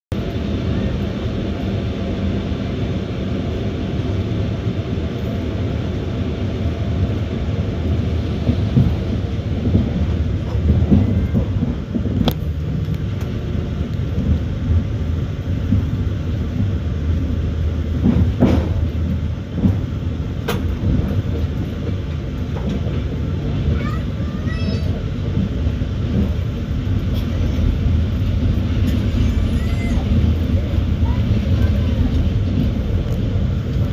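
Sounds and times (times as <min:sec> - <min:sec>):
train wheels rumbling on rails: 0:00.1 - 0:33.9.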